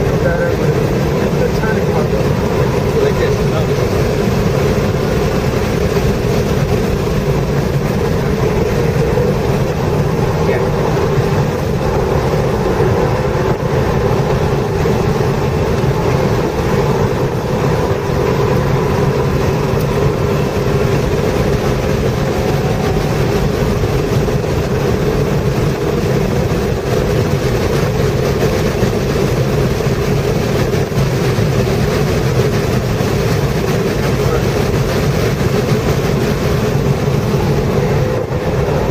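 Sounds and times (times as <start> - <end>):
car engine under throttle: 0.0 - 38.9
tyre and wind noise: 0.0 - 38.9.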